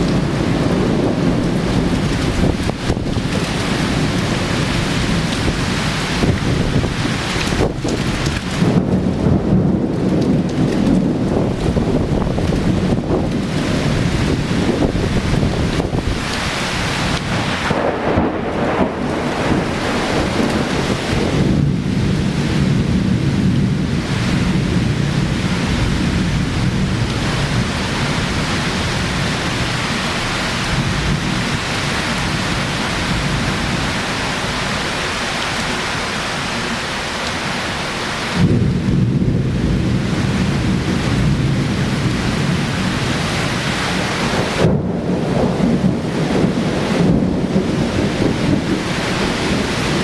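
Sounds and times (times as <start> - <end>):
torrential rain pouring: 0.0 - 50.0.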